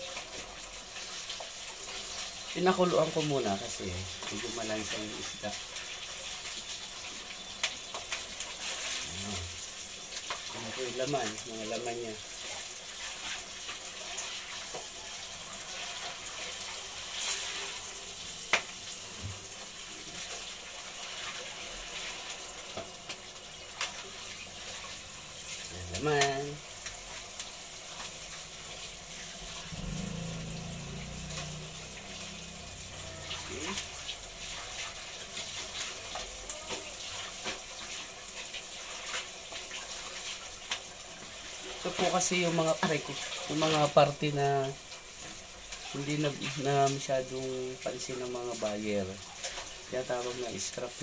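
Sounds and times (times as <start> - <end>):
meat sizzling in oil: 0.0 - 51.0.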